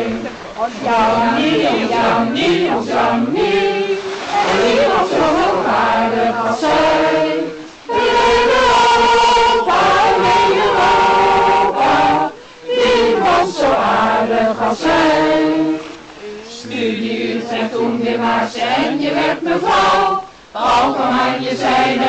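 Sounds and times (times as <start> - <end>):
group of people singing: 0.0 - 22.0.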